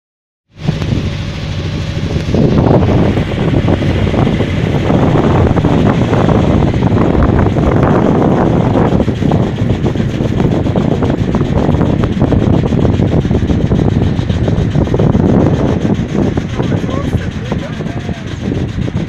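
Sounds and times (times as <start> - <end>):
ferry engine running: 0.5 - 19.0
wind buffeting microphone: 0.6 - 19.0.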